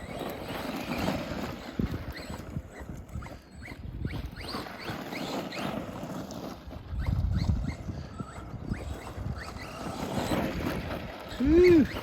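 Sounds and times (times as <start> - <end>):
electric motor whining: 0.0 - 12.0
toy truck rumbling over rough ground: 0.0 - 12.0.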